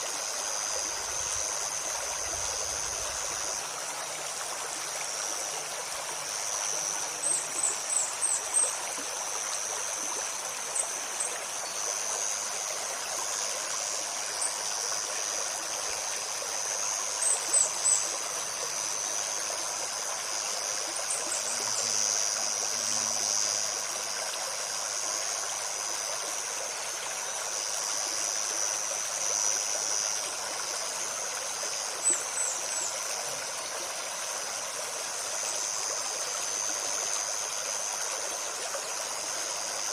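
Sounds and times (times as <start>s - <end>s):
high insect drone: 0.0s - 39.9s
stream babbling over stones: 0.0s - 39.9s.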